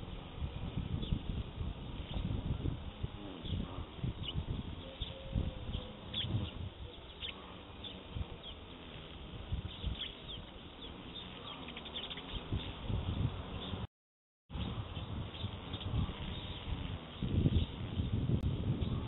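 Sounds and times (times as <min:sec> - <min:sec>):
small birds chirping: 0:00.5 - 0:13.9, 0:14.5 - 0:19.0.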